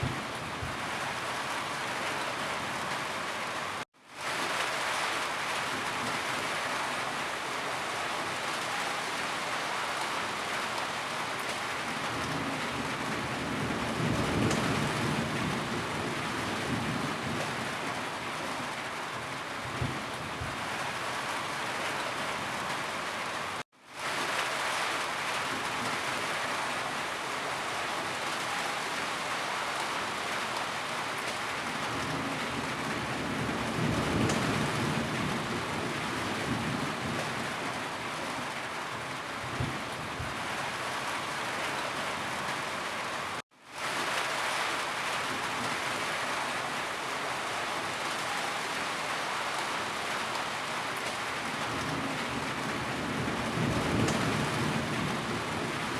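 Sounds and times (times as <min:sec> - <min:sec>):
heavy rain on surfaces: 0:00.0 - 0:55.9.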